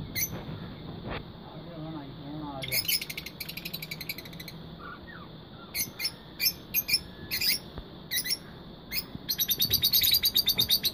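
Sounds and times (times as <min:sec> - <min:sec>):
lovebirds chirping: 0:00.0 - 0:00.8, 0:02.3 - 0:10.9.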